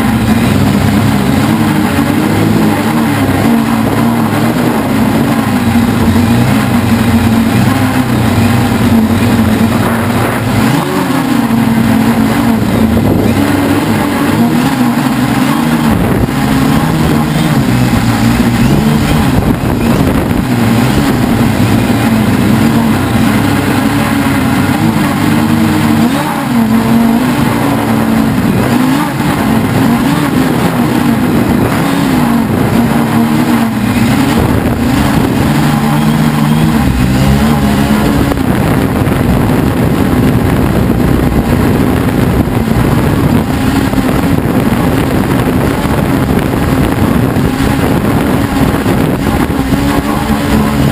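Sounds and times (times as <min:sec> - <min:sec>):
quadcopter propellers buzzing: 0:00.0 - 0:50.9.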